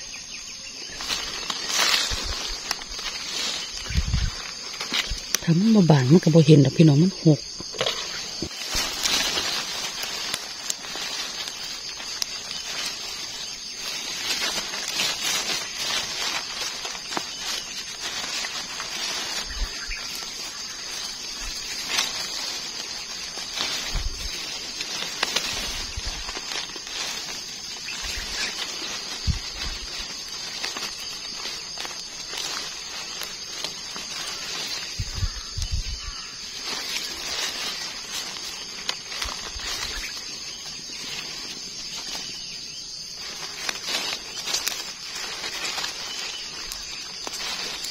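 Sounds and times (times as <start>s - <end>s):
high insect chorus: 0.0s - 47.9s
wet leaves rustling and crackling: 0.0s - 47.9s.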